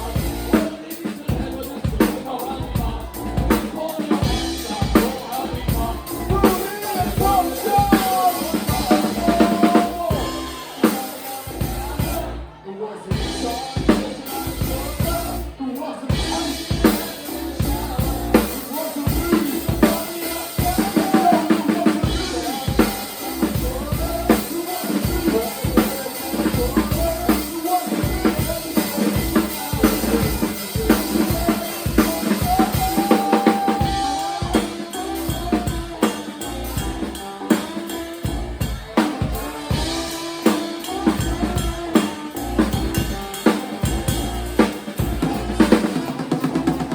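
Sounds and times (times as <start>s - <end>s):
bass drum and snare beat: 0.0s - 12.4s, 13.1s - 46.9s
live band playing: 0.0s - 46.9s.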